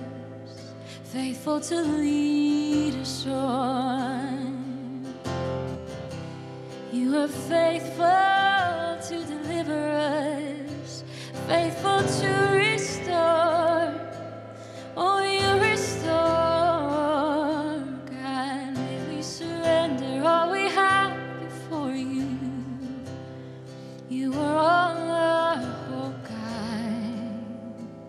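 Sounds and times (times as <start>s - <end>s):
woman singing: 0.0s - 5.6s, 6.8s - 28.0s
strummed acoustic guitar: 0.0s - 28.0s.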